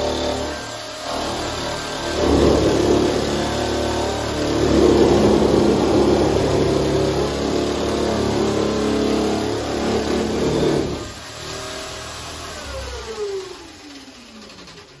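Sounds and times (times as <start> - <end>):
electric nibbler cutting metal: 0.0 - 12.0.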